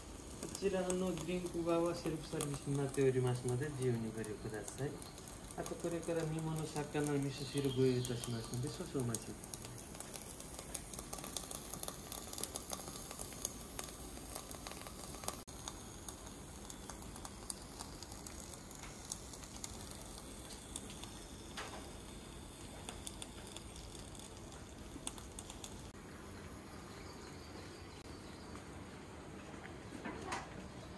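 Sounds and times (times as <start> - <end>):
food sizzling and crackling on grill: 0.0 - 28.0.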